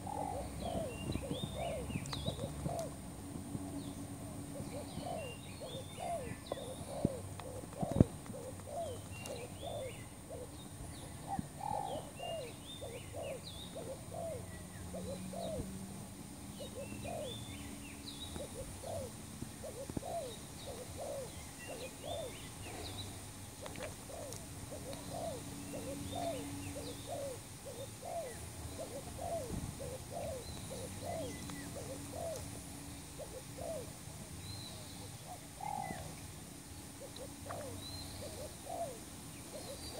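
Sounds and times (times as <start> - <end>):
small birds chirping: 0.0 - 3.1, 3.7 - 39.9
doves cooing: 0.0 - 39.9.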